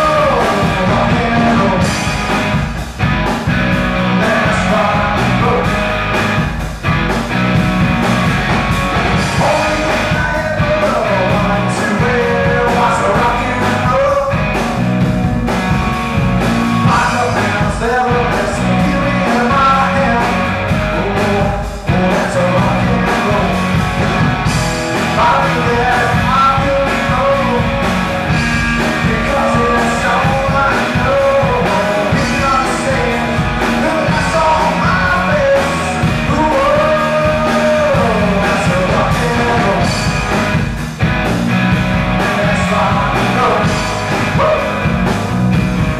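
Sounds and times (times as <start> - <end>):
bending lead melody: 0.0 - 21.4, 22.4 - 45.9
drum kit: 0.0 - 45.9
electric bass: 0.0 - 45.9
electric guitar: 0.0 - 45.9.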